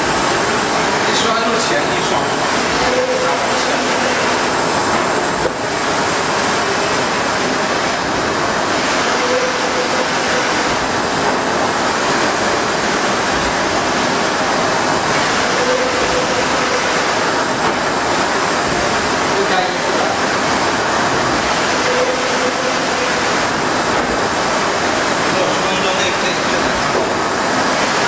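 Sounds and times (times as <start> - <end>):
printer carriage whirring: 0.0 - 28.0.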